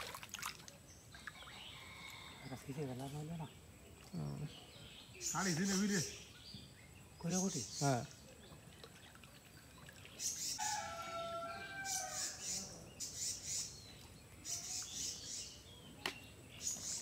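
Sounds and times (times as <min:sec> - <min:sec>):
birds chirping: 0:00.6 - 0:17.0.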